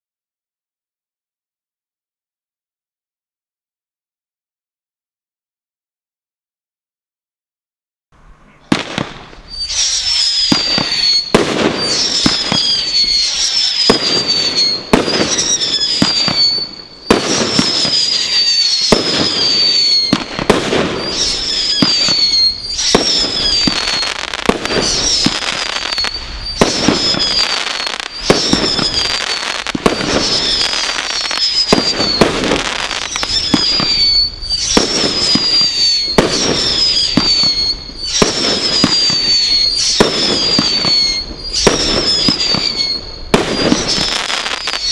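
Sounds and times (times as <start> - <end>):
firework whistles: 8.6 - 44.9
firework cracks and bangs: 8.7 - 44.9.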